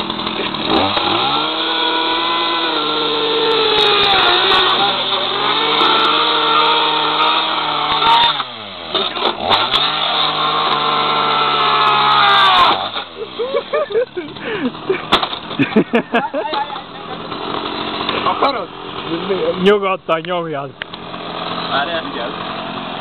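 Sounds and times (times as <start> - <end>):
chainsaw cutting: 0.0 - 23.0.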